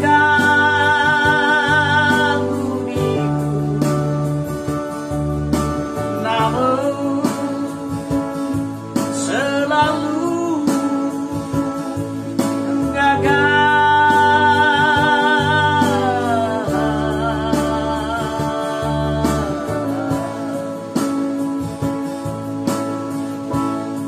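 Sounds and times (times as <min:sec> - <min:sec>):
man singing: 0:00.0 - 0:04.7, 0:06.0 - 0:21.6
electronic keyboard accompaniment: 0:00.0 - 0:24.0.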